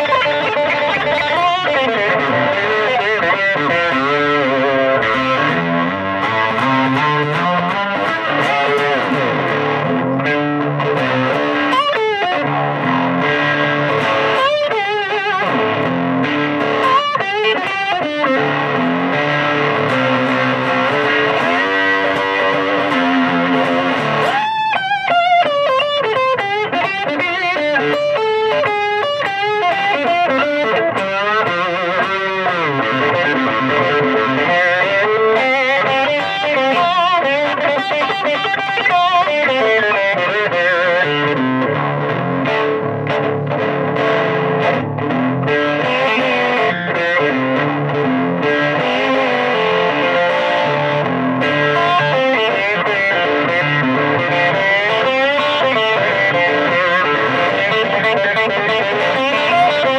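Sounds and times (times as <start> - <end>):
electric slide guitar: 0.0 - 59.9.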